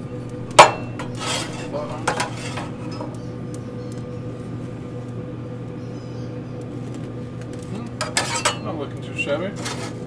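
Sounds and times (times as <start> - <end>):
smoker fan humming: 0.0 - 10.0.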